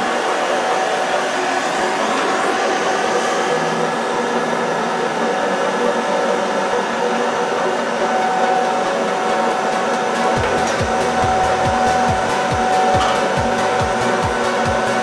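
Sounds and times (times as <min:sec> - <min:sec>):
propane torch hissing: 0:00.0 - 0:15.0.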